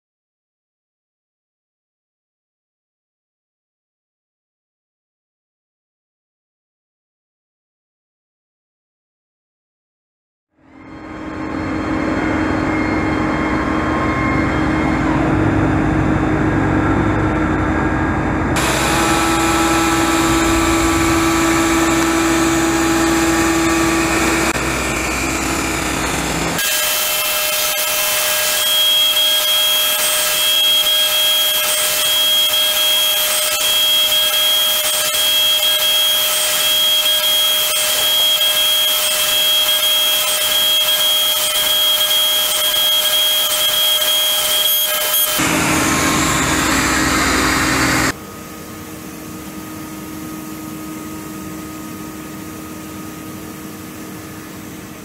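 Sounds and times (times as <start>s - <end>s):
cnc milling machine cutting metal: 10.7s - 55.0s.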